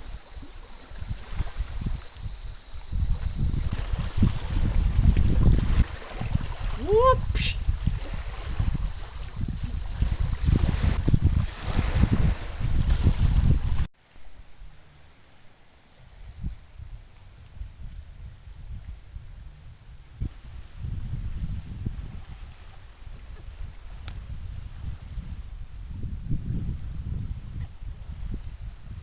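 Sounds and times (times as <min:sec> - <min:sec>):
wind rumble on microphone: 0:00.0 - 0:13.9, 0:16.0 - 0:29.0
high-pitched insect chorus: 0:00.0 - 0:29.0.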